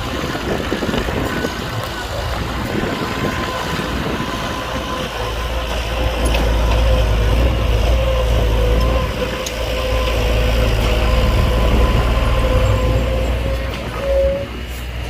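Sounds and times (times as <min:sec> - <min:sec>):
diesel engine whine and rumble: 0:00.0 - 0:15.0.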